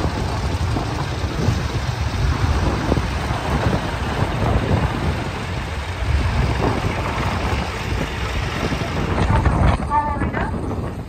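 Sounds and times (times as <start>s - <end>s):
tractor engines rumbling: 0.0s - 11.0s.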